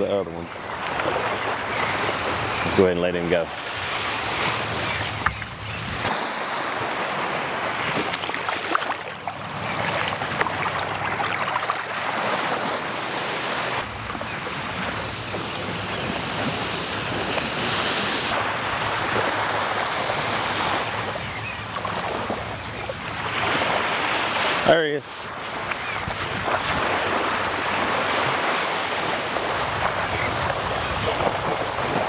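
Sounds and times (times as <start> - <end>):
small waves washing on beach: 0.0 - 32.0.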